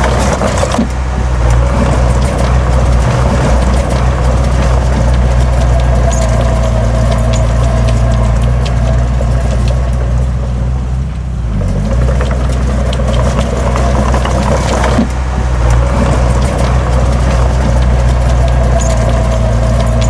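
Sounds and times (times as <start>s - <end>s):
heavy diesel engine under load: 0.0s - 20.0s
metallic clanks: 0.0s - 20.0s.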